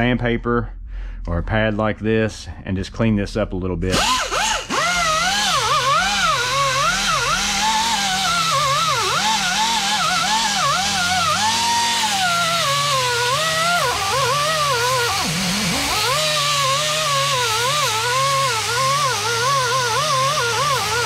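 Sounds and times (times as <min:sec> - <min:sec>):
power tool motor whine: 0:03.9 - 0:21.0.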